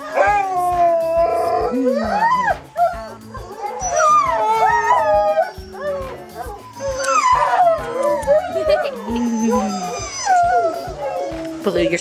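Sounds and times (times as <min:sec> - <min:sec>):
dog whining and howling: 0:00.0 - 0:11.7
background music with steady beat: 0:00.0 - 0:12.0.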